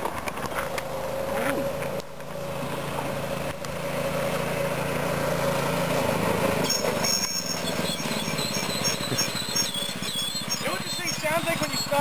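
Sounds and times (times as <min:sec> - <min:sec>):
mini bike engine running: 0:00.0 - 0:12.0.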